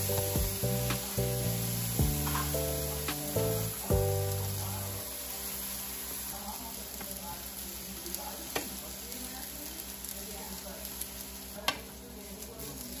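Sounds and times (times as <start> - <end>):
rice and meat sizzling in skillet: 0.0 - 13.0.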